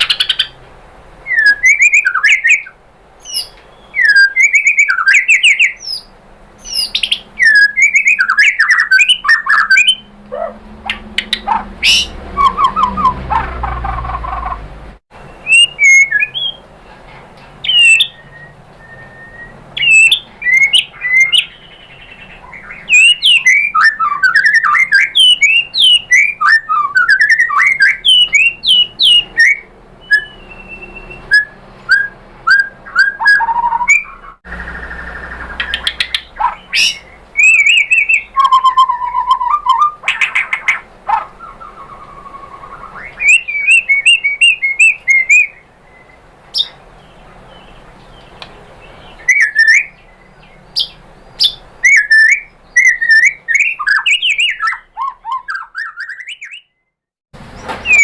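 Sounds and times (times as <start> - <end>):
bird singing clear whistles: 1.2 - 10.5, 11.2 - 14.6, 15.2 - 16.6, 17.6 - 46.8, 48.8 - 56.9, 57.8 - 58.0.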